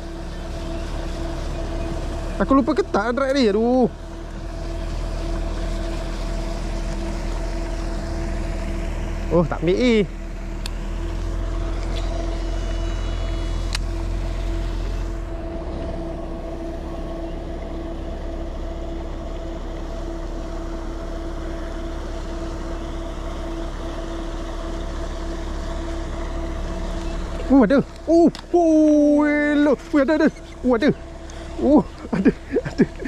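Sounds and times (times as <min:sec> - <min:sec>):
machine hum with low rumble: 0:00.0 - 0:33.0.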